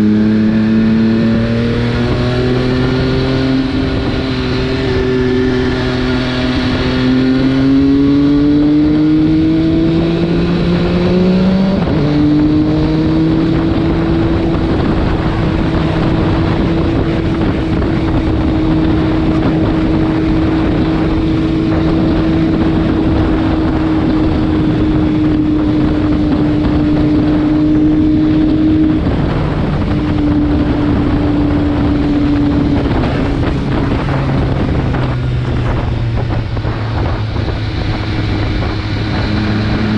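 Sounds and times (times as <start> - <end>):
motorcycle engine revving: 0.0 - 39.9
rush of wind: 0.0 - 39.9.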